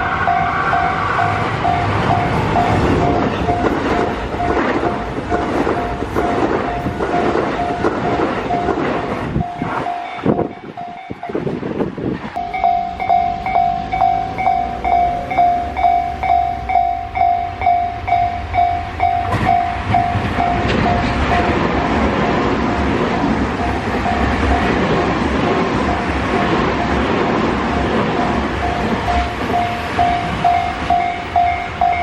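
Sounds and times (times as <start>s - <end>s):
level crossing warning bell: 0.0s - 11.7s, 12.4s - 32.0s
passing train: 0.0s - 32.0s.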